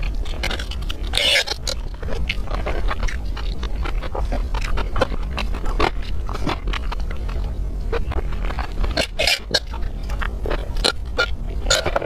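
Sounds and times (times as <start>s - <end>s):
noisy slurp: 0.0s - 12.0s
wet chewing and lip smacks: 0.0s - 12.0s.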